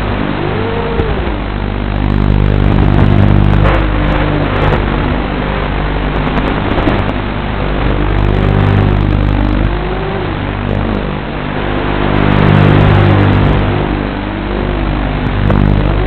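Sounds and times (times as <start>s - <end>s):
drone motors buzzing and whining: 0.0s - 16.0s.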